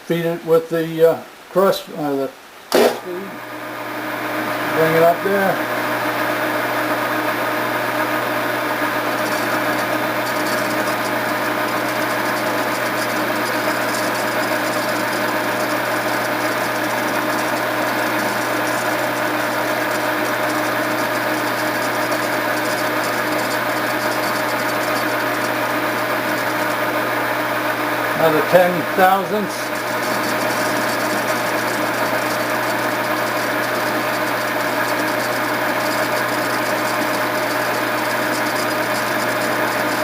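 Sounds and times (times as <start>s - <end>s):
metal lathe motor humming: 2.8s - 40.0s.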